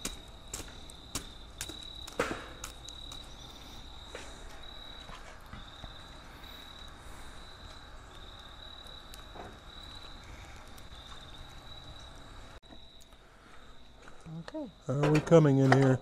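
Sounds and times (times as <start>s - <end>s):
insect trill: 0.0s - 16.0s
wood fire crackling: 0.0s - 16.0s.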